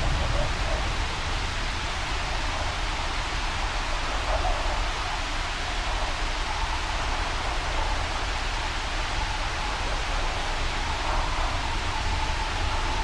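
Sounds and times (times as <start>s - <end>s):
rushing wind and rain: 0.0s - 13.0s.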